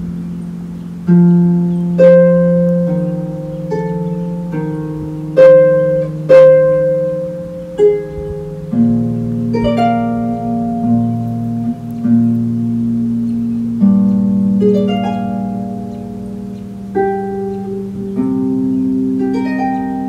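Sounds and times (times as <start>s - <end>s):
harp playing slow melody: 0.0s - 20.0s.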